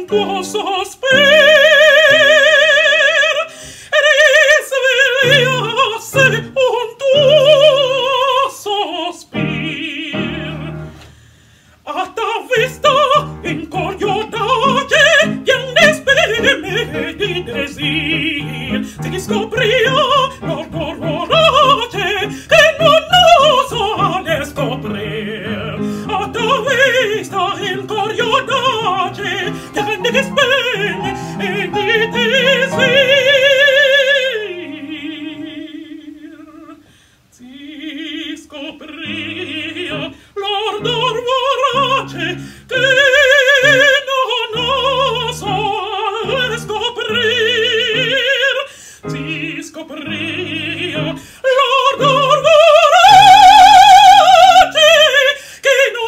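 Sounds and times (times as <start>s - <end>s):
upright piano: 0.0s - 8.4s, 9.3s - 11.0s, 12.6s - 36.8s, 38.9s - 54.7s
woman singing opera: 0.0s - 11.1s, 11.8s - 56.0s.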